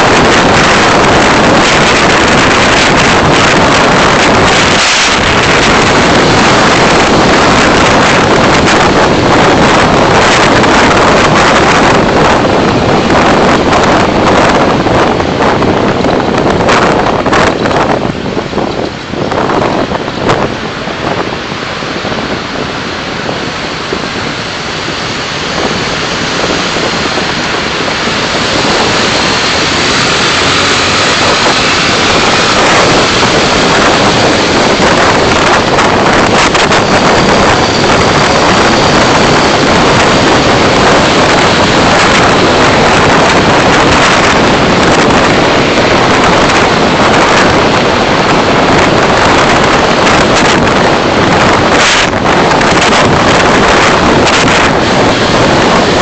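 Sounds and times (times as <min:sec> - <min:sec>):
car road noise: 0:00.0 - 0:56.0
rushing wind: 0:00.0 - 0:56.0.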